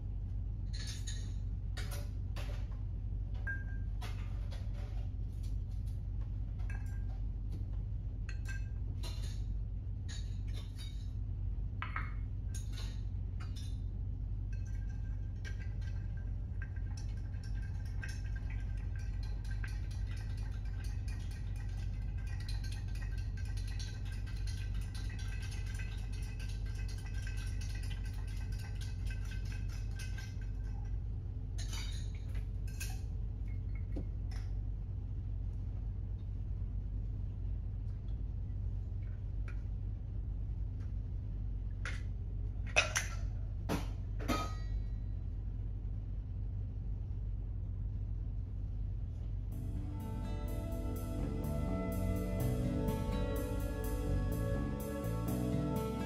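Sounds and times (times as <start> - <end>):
low hum: 0.0 - 42.7, 44.4 - 56.0.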